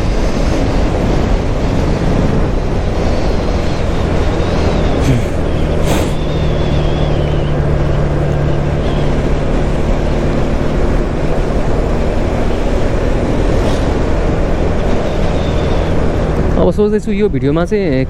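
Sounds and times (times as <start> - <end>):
road and wind noise: 0.0 - 18.0
motorcycle engine running: 1.3 - 16.6.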